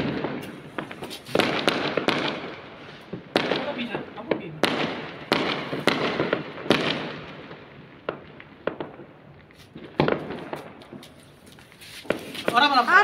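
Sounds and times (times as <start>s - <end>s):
firecrackers banging: 0.0s - 13.0s
small firework pops: 0.0s - 13.0s.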